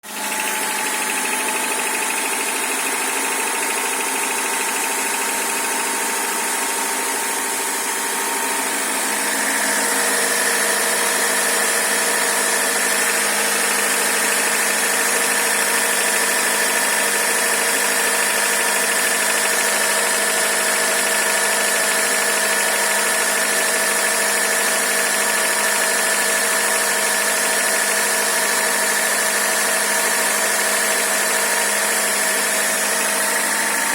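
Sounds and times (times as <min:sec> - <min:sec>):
engine idling with knock: 0:00.0 - 0:33.9.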